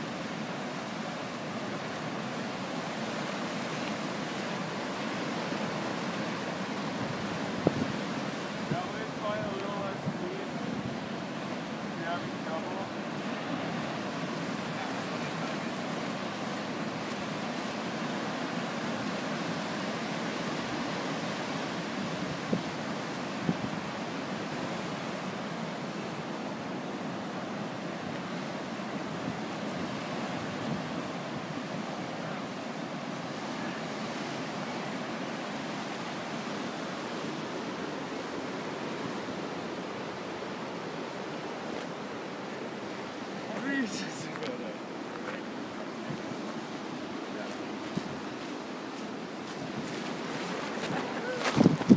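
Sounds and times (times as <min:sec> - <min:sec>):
ocean surf breaking: 0:00.0 - 0:51.9
wind: 0:00.0 - 0:51.9.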